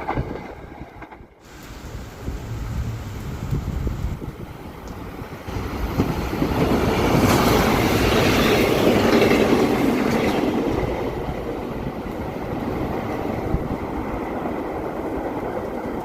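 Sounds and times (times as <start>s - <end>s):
train wheel and rail noise: 0.0s - 16.0s.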